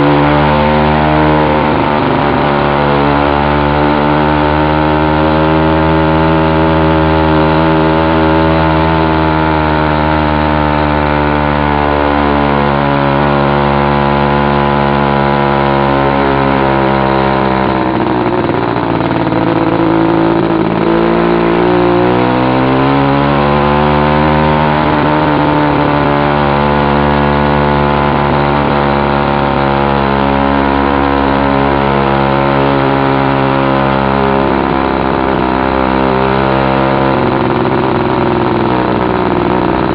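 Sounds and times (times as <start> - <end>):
two-stroke bicycle engine under load: 0.0 - 39.9.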